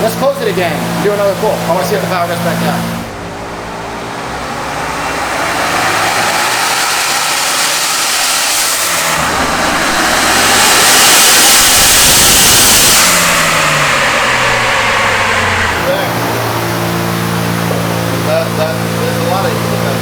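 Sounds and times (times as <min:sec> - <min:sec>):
dyno roller noise: 0:00.0 - 0:20.0
engine at full throttle: 0:00.0 - 0:20.0.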